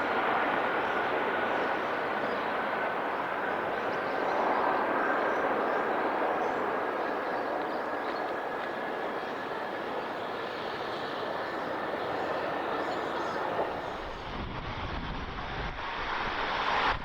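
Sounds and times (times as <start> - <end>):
jet engine roar with whine: 0.0 - 17.0.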